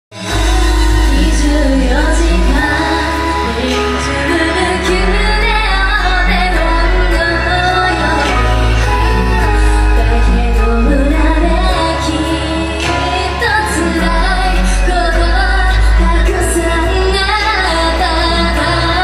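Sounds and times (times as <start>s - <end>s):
pop backing track with heavy bass: 0.1s - 19.0s
women singing pop live: 0.2s - 19.0s.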